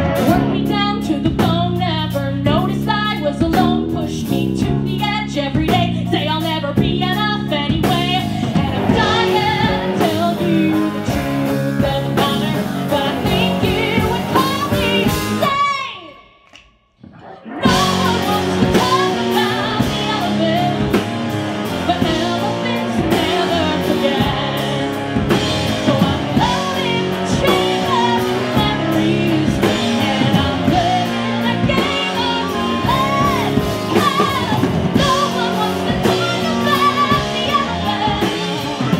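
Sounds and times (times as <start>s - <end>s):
live band playing: 0.0s - 15.6s, 17.5s - 38.9s
woman singing into a microphone: 0.2s - 16.2s, 17.6s - 38.9s.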